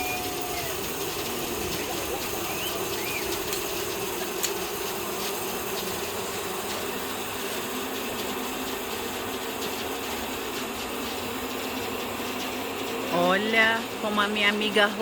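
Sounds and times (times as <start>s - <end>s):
pulley mechanism whirring: 0.0s - 13.8s.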